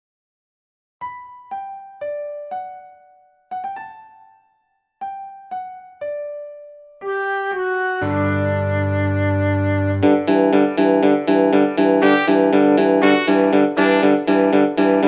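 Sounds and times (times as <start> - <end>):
slow piano melody: 1.0 - 15.0.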